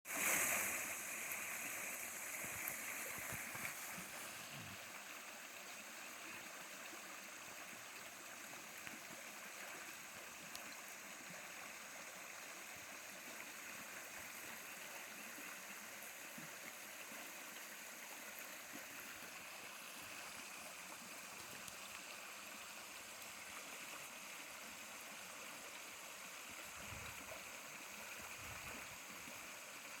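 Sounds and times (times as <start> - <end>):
mountain stream running: 0.1 - 30.0.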